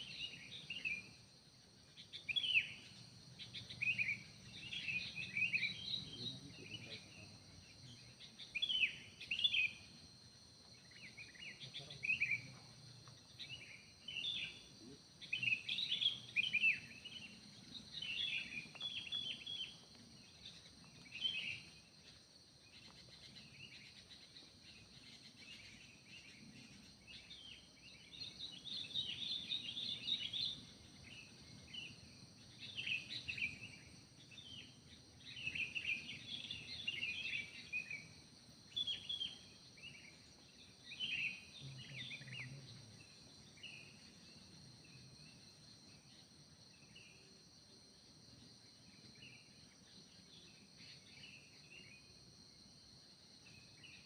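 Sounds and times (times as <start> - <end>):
birds chirping and trilling: 0.0 - 47.2
insects droning: 0.0 - 54.0.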